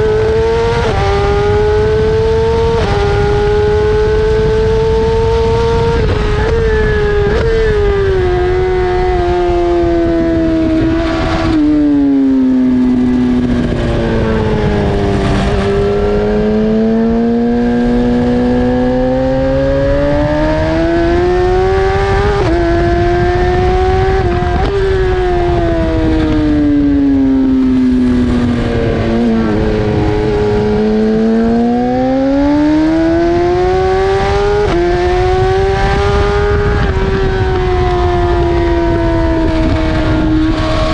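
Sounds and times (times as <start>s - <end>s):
motorcycle racing engine: 0.0s - 40.9s
wind and road noise: 0.0s - 40.9s.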